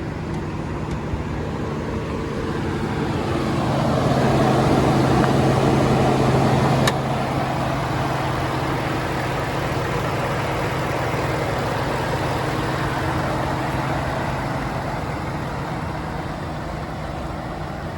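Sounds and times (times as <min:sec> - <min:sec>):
truck engine idling: 0:00.0 - 0:17.9.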